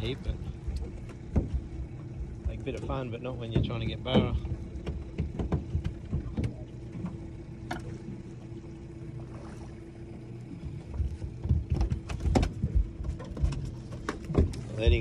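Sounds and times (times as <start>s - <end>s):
thumps and knocks on boat: 0.0s - 8.6s, 10.1s - 15.0s
boat motor humming: 0.0s - 15.0s.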